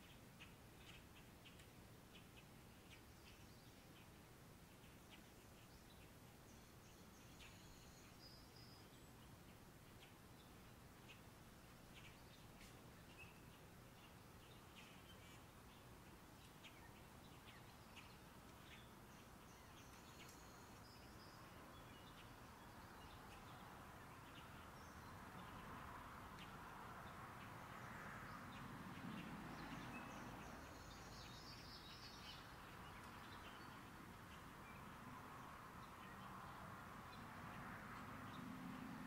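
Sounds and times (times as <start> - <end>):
outdoor background hiss: 0.0 - 39.0
small birds chirping: 0.0 - 39.0.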